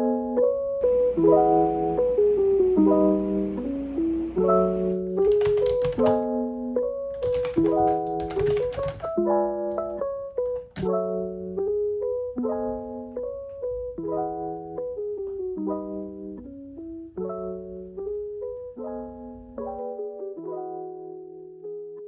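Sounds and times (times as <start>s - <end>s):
piano melody: 0.0s - 22.0s.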